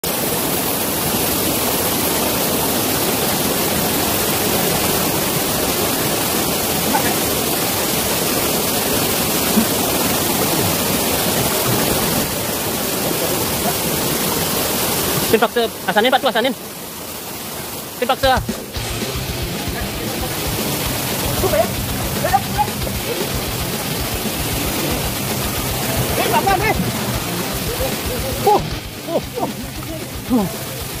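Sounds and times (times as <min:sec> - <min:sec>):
fast-flowing stream water: 0:00.0 - 0:31.0
small waterfall rushing: 0:00.0 - 0:31.0.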